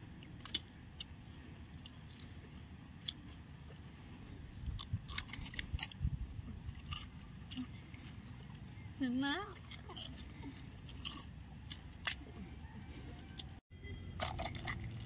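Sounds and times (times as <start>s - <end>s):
crunching and chewing crisp shells: 0.0s - 15.0s.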